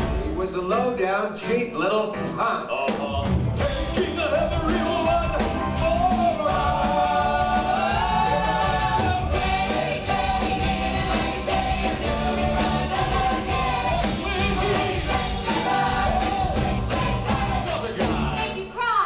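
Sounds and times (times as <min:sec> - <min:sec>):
rock band with drums: 0:02.8 - 0:18.5
people singing: 0:03.6 - 0:19.0.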